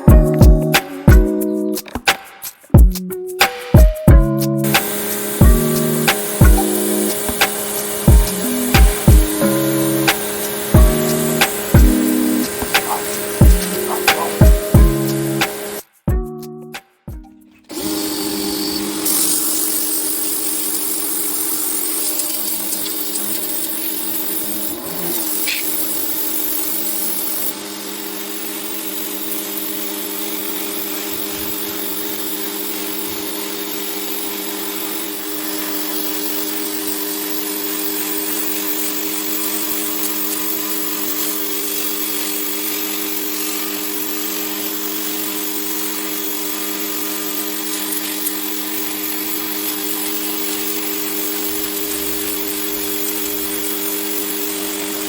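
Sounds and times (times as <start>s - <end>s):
pressure washer running: 4.6s - 15.8s, 17.7s - 55.0s.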